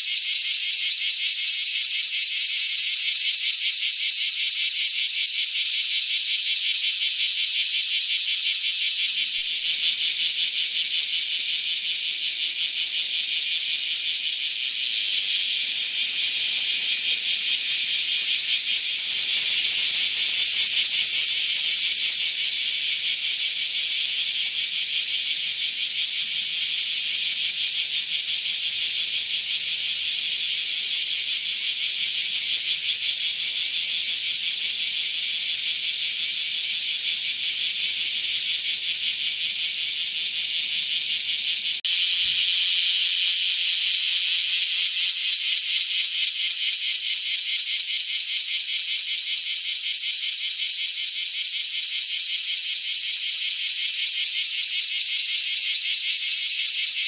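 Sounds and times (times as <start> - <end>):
cicada buzzing: 0.0 - 57.0.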